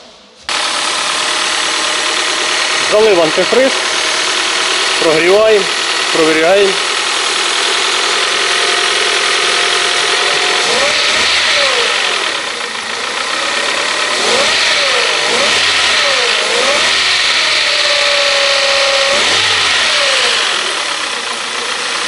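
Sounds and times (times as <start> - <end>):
car engine revving: 0.5 - 22.0.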